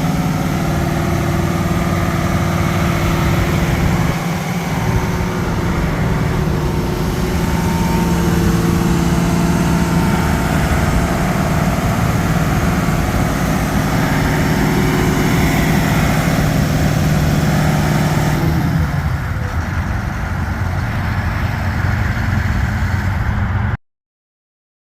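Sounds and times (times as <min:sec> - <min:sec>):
bulldozer diesel engine running: 0:00.0 - 0:23.8.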